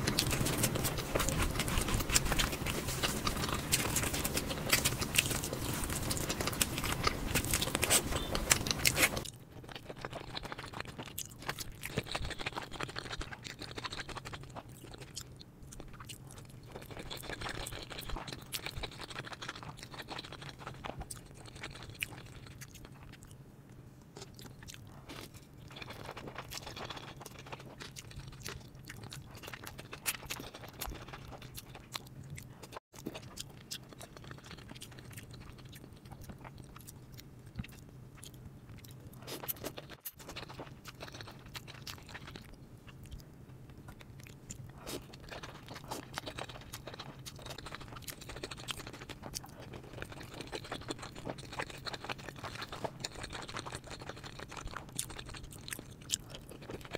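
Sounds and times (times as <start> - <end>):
chewing and crunching: 0.0 - 56.9.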